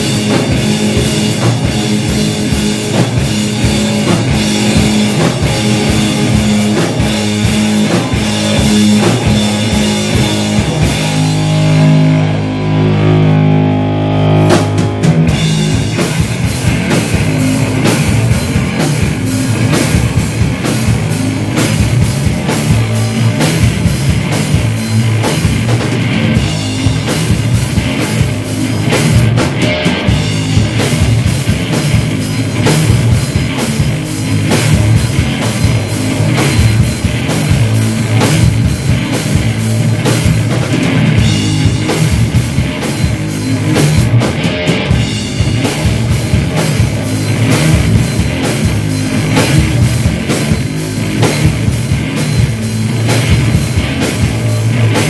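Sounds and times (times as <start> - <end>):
rapid drum hits: 0.0 - 12.5, 14.3 - 55.0
live rock band playing: 0.0 - 55.0.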